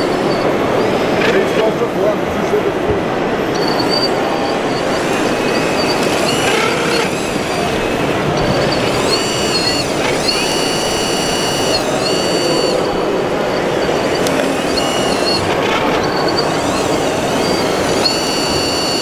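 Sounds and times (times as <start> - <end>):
busy exhibition hall noise: 0.0 - 19.0
high-pitched electric whine: 3.4 - 19.0.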